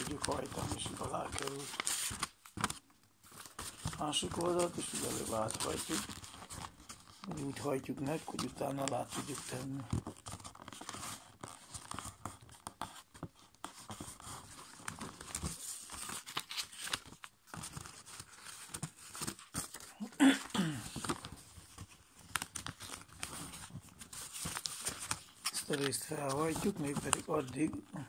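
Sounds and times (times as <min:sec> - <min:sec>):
paper folding and crinkling: 0:00.0 - 0:28.0.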